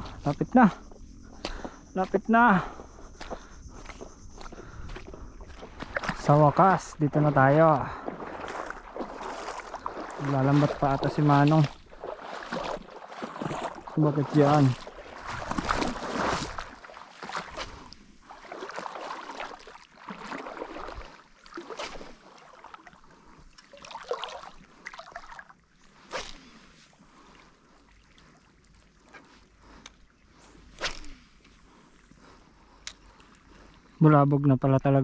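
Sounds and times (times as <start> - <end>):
feet splashing through water: 1.4 - 34.0.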